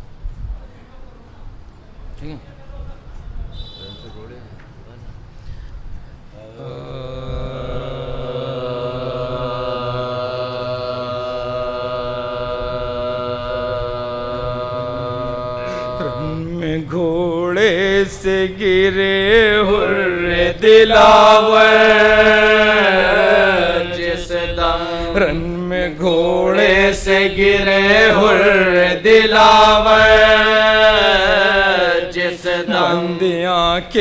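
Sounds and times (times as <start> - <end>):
men chanting an elegy: 6.3 - 34.0.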